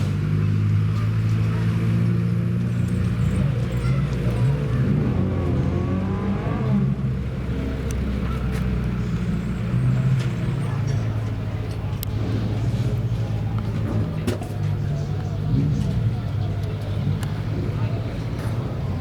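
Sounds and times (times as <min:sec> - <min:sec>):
racing car engines running: 0:00.0 - 0:19.0.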